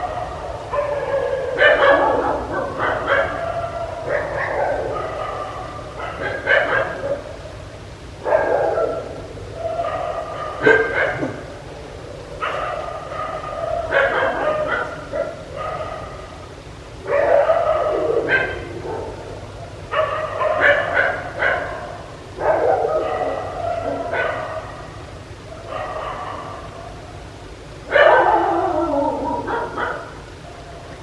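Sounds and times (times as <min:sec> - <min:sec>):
dog barking and yipping: 0:00.0 - 0:07.4, 0:08.2 - 0:11.5, 0:12.4 - 0:16.3, 0:17.0 - 0:19.2, 0:19.9 - 0:25.0, 0:25.6 - 0:27.0, 0:27.9 - 0:30.8.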